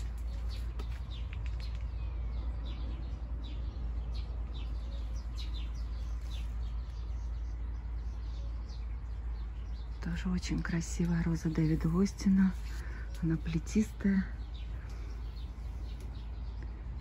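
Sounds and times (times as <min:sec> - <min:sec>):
small songbirds chirping: 0:00.0 - 0:17.0
steady low rumble: 0:00.0 - 0:17.0.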